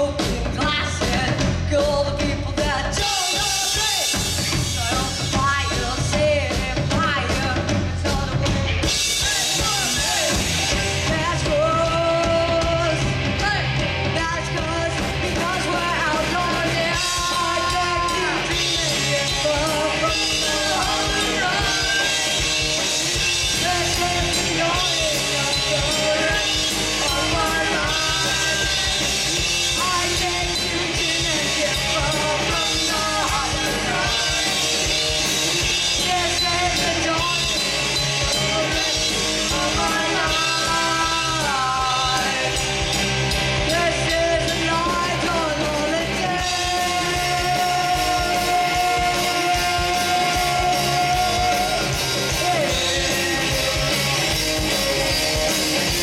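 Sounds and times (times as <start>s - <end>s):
person singing: 0.0s - 42.7s, 43.6s - 56.0s
bass guitar: 0.0s - 56.0s
drum kit: 0.0s - 56.0s
electric guitars: 0.0s - 56.0s.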